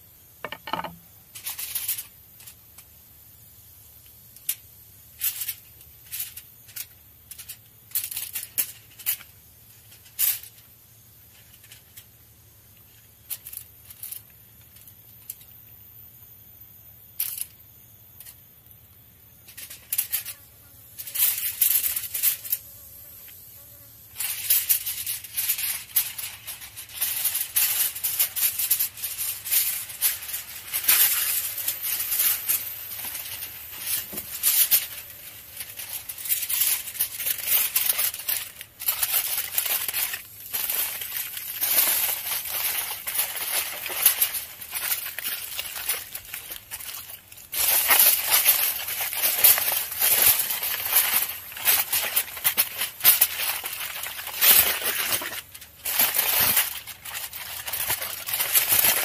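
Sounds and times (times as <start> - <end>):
aluminium foil crinkling: 0.4 - 3.0, 4.0 - 15.6, 19.1 - 59.0.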